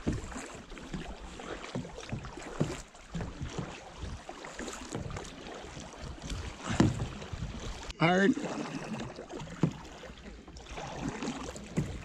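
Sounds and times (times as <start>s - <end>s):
paddle splashing water: 0.0s - 12.0s
water lapping against hull: 0.0s - 12.0s.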